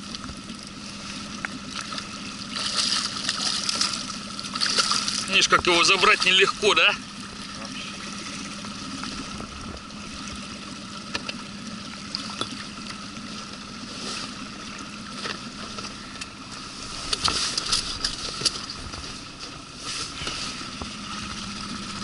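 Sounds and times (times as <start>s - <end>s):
outboard motor idling: 0.0s - 22.0s
water lapping along hull: 0.0s - 22.0s.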